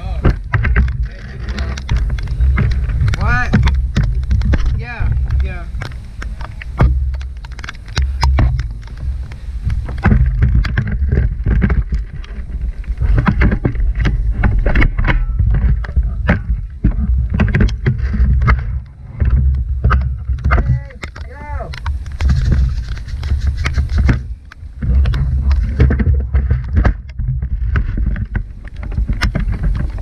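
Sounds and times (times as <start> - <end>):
raindrops tapping close: 0.0 - 30.0
wind buffeting microphone: 0.0 - 30.0.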